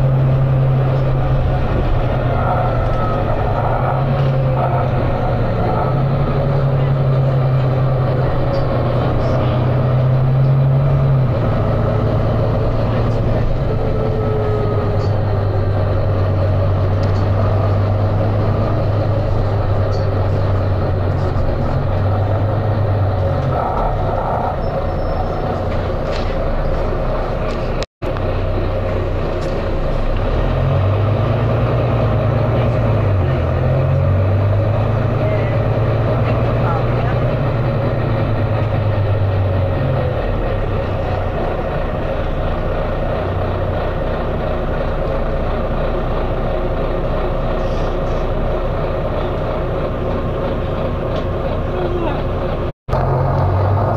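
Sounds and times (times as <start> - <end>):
bus diesel engine thrashing: 0.0 - 53.9.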